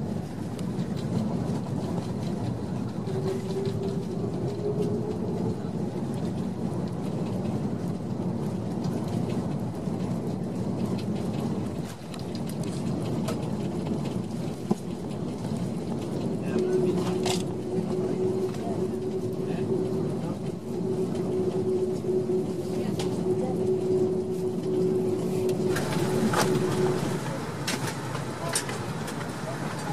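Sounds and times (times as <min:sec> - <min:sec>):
airplane engine noise: 0:00.0 - 0:29.9
wheel rumble on runway: 0:00.0 - 0:29.9.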